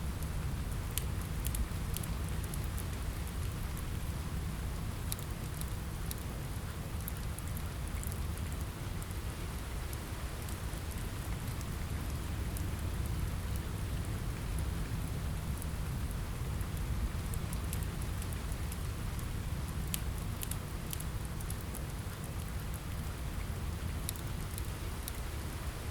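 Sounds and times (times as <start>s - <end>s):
fire crackling: 0.0s - 25.8s
rain on a window: 0.0s - 25.9s.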